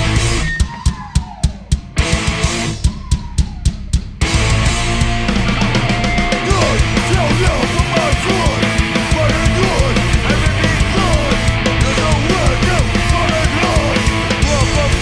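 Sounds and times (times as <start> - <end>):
bass guitar: 0.0 - 15.0
distorted electric guitars: 0.0 - 15.0
fast drumming: 0.0 - 15.0.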